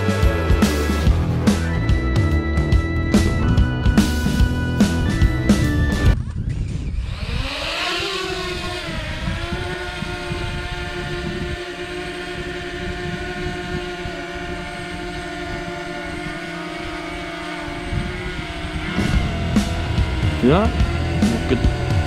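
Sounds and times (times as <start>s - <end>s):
drone propellers whining: 0.0s - 22.0s
wind buffeting microphone: 2.9s - 22.0s.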